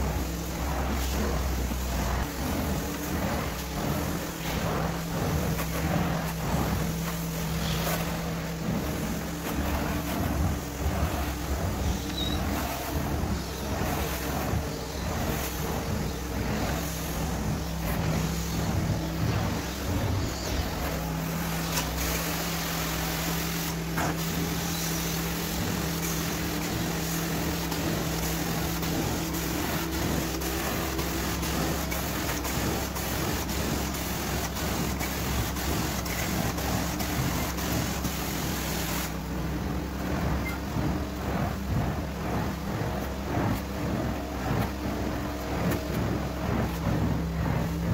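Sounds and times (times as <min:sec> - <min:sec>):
carpet extraction machine running: 0:00.0 - 0:47.9.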